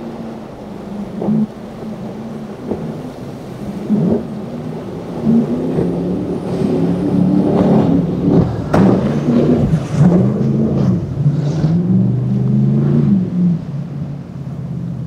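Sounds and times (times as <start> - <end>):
powerboat engines running hard: 0.0 - 15.0.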